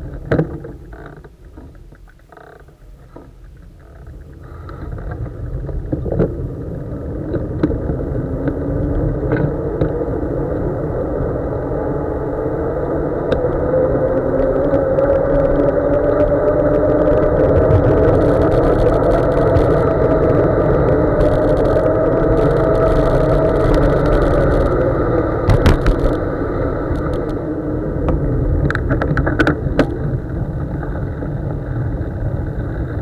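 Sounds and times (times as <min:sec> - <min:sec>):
bike tyres humming on wet tarmac: 0:03.4 - 0:33.0
wind rushing over microphone: 0:04.1 - 0:33.0.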